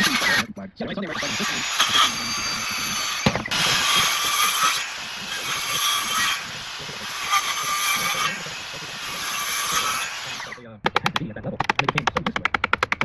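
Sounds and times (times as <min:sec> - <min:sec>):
metalworking tool running: 0:00.0 - 0:10.6.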